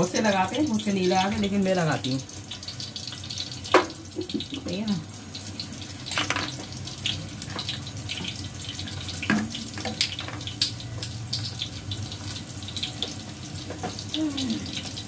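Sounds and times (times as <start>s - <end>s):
oil popping and crackling: 0.0s - 15.0s
onion sizzling in hot oil: 0.0s - 15.0s.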